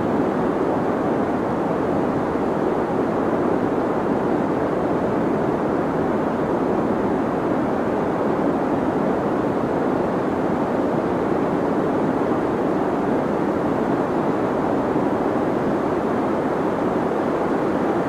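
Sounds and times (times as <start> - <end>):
deep white noise hiss: 0.0 - 18.0.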